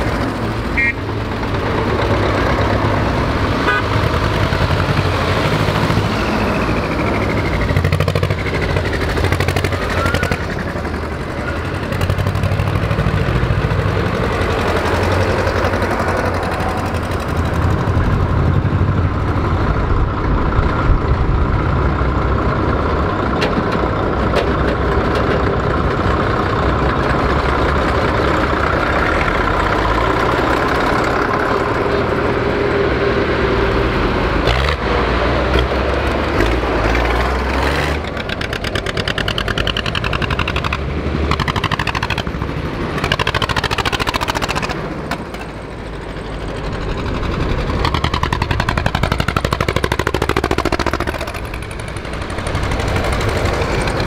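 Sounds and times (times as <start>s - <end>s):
tractor engines rumbling past: 0.0s - 54.0s.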